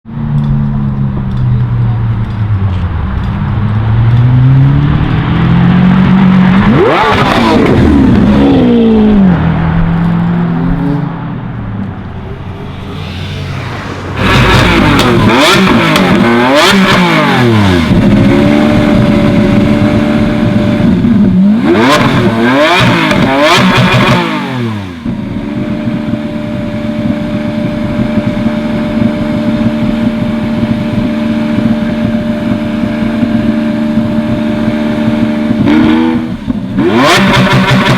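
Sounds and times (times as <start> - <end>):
sports car engine revving: 0.2 - 11.4, 12.0 - 37.9.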